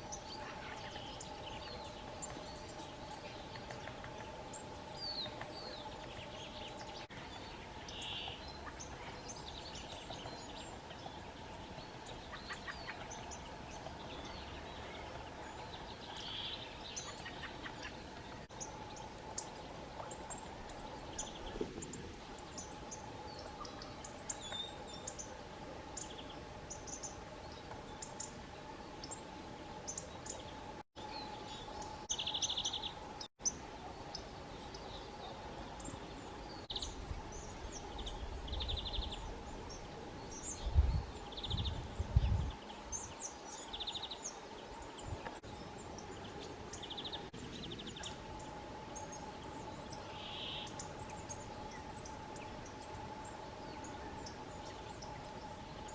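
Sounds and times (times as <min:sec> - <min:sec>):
faint steady hum: 0:00.0 - 0:55.9
songbirds chirping: 0:00.0 - 0:55.9.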